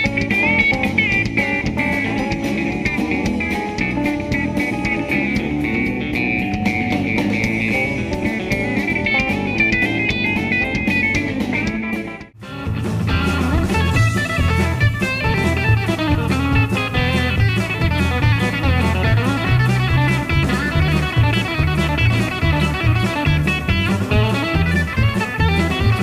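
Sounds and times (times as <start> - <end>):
live band playing country music: 0.0 - 26.0
twangy electric guitar lead: 0.0 - 26.0.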